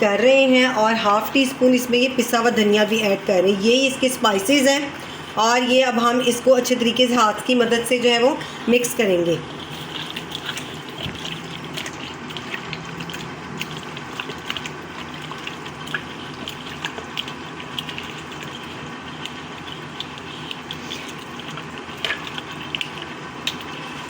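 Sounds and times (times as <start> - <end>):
hands squishing marinade: 0.0 - 24.0.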